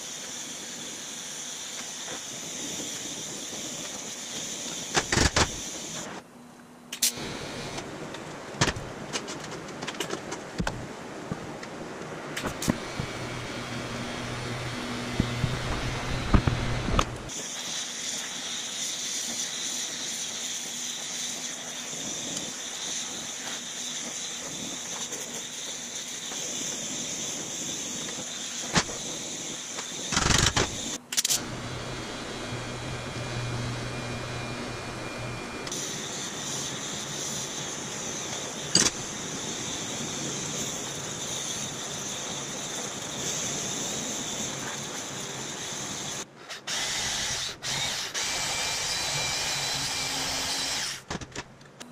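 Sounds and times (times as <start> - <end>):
welding arc hissing: 0.0 - 6.2, 12.4 - 51.1.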